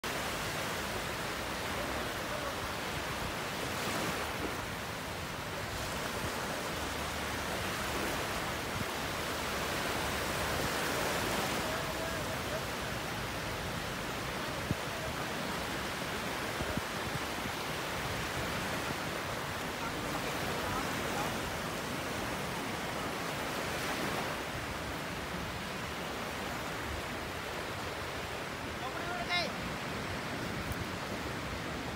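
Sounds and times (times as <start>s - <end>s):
sea surf breaking on beach: 0.0s - 31.9s.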